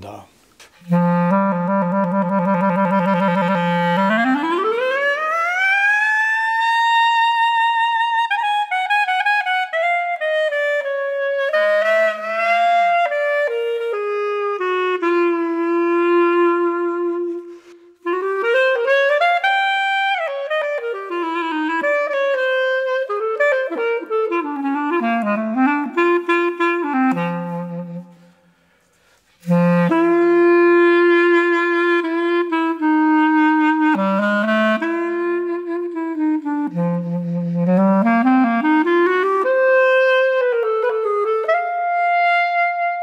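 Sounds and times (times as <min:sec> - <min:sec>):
jazz clarinet solo: 0:00.0 - 0:43.0.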